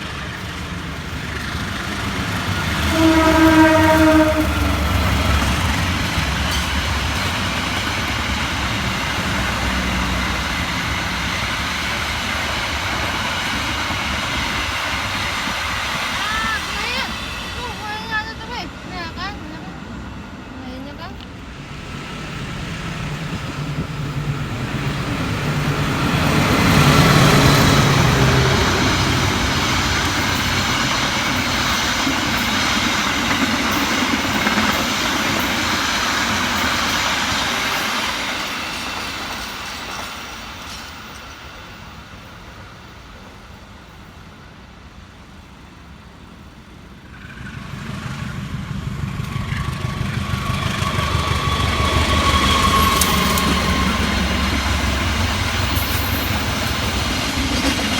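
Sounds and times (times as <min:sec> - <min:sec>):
diesel locomotive engine hum: 0:00.0 - 0:57.9
train wheels rumbling on rails: 0:00.0 - 0:57.9.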